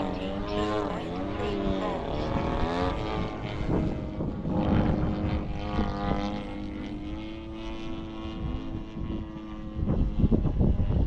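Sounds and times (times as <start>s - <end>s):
model plane motor whining: 0.0s - 11.0s
low rumble: 1.9s - 11.0s.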